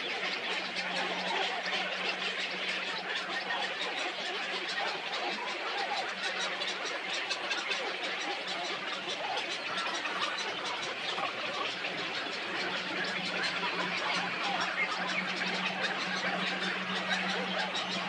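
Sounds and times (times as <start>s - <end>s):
birds chattering: 0.0s - 18.0s.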